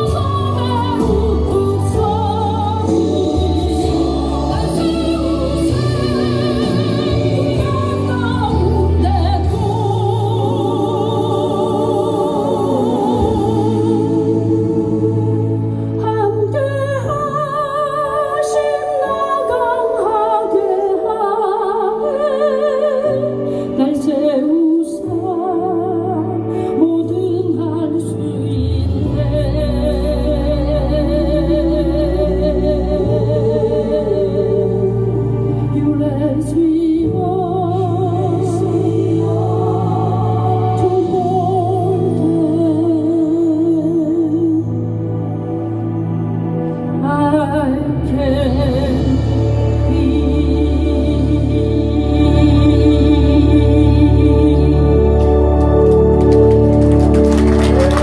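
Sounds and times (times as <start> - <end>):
person singing with vibrato: 0.0 - 56.4.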